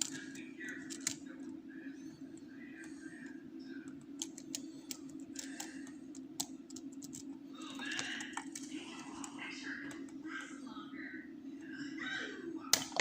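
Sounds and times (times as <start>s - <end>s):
faint voices: 0.0s - 6.4s, 7.2s - 13.0s
steady low hum: 0.0s - 13.0s.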